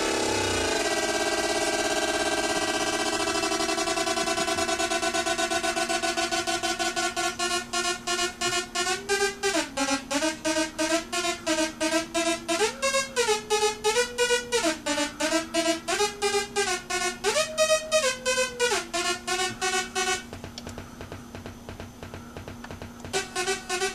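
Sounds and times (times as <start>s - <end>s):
buzzy synthesizer tone pulsing: 0.0s - 23.9s.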